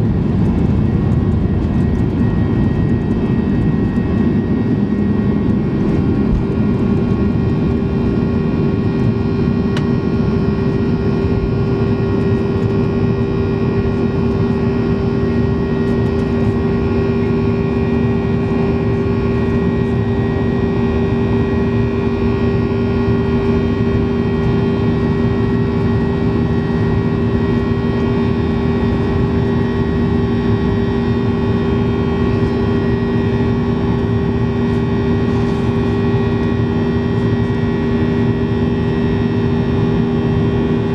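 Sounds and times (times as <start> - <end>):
jet engines in cabin: 0.0 - 40.9.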